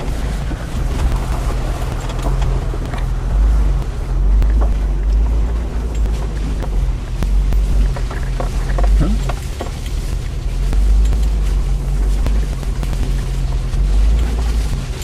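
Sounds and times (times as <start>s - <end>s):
low engine hum: 0.0s - 15.0s
vehicle knocks and rattles: 0.0s - 15.0s.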